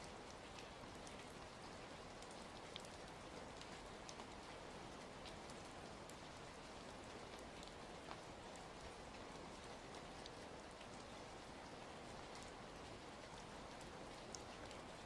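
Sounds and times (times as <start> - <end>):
quiet steady rain: 0.0 - 15.0.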